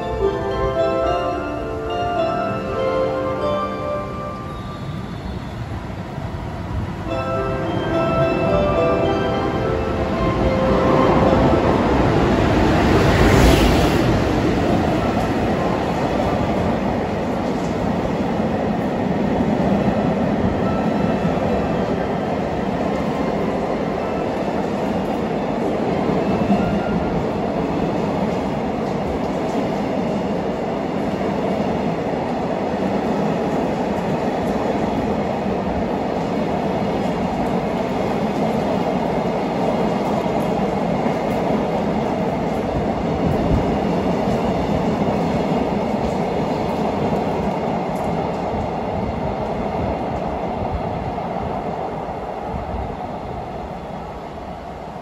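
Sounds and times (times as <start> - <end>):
train wagons rumbling on rails: 4.0 - 55.0.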